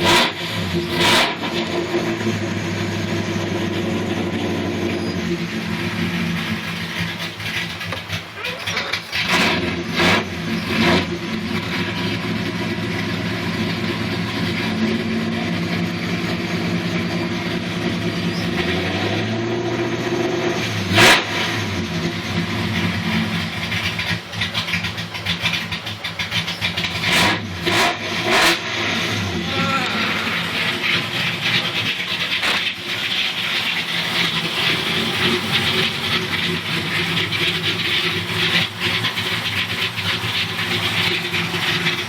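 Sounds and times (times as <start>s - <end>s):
car engine struggling to idle: 0.0s - 42.0s
engine surges: 0.0s - 42.0s.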